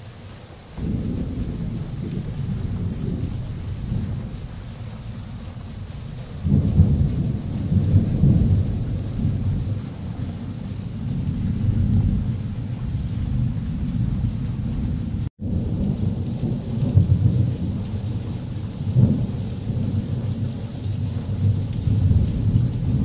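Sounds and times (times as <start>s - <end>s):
heavy rain on concrete: 0.0s - 23.0s
thunder rumbling: 0.8s - 23.0s.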